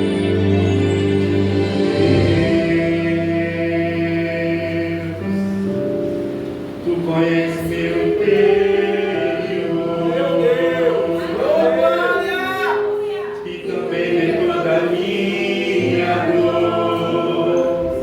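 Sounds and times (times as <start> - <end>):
voices singing gospel: 0.0 - 5.5, 6.8 - 18.0
keyboard chords: 0.0 - 18.0.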